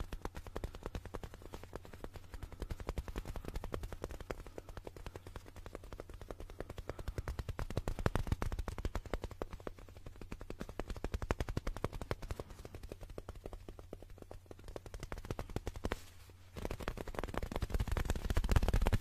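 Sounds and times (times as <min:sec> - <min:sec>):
fingertip tapping on microphone: 0:00.0 - 0:19.0.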